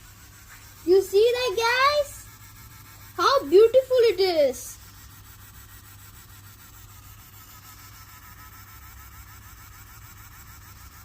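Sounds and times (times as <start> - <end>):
small motor whirring: 0.0 - 11.0.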